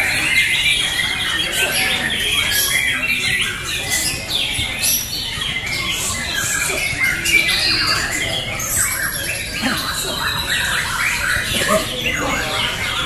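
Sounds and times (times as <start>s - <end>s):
songbirds chorus of whistles and trills: 0.0s - 13.0s.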